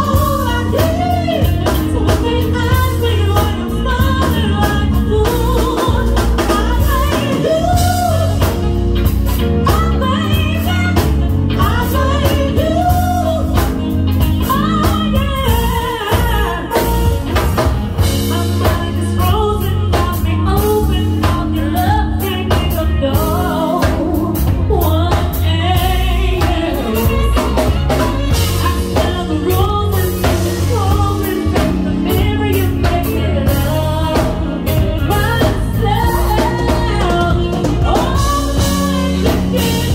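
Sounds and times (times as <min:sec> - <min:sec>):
person singing: 0:00.0 - 0:08.8, 0:09.6 - 0:39.9
bass: 0:00.0 - 0:39.9
drum kit beat: 0:00.0 - 0:39.9
electric guitar: 0:00.0 - 0:39.9.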